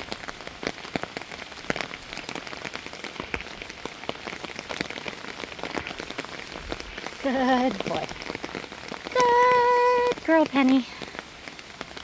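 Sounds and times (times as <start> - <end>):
raindrops ticking close by: 0.0 - 12.0
steady rain falling: 0.0 - 12.0.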